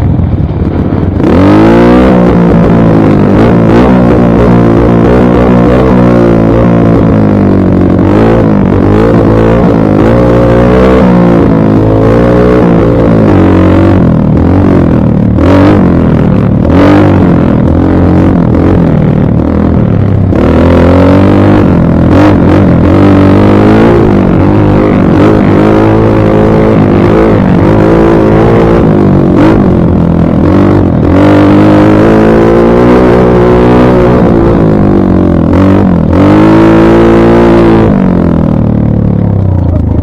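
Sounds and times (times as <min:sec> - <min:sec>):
dirt bike engine revving: 0:00.0 - 0:38.7.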